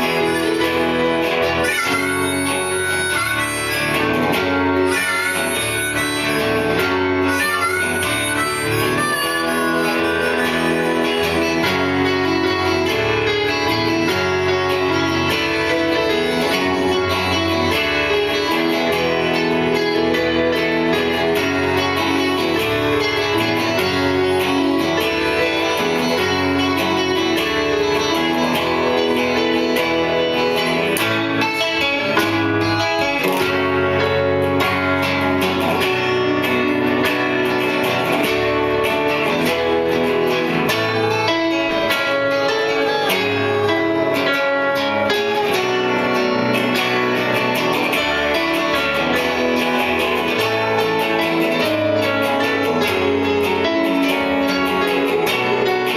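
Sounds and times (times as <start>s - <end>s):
guitars: 0.0s - 55.9s
live band playing: 0.0s - 55.9s.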